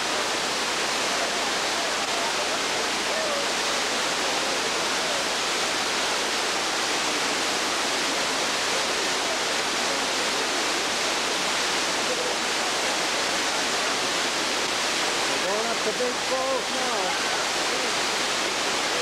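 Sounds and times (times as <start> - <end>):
water cascading over rocks: 0.0 - 19.0.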